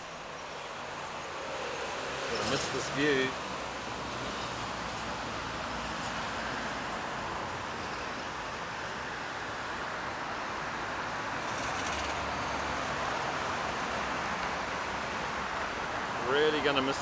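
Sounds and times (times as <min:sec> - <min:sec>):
road traffic hiss: 0:00.0 - 0:17.0.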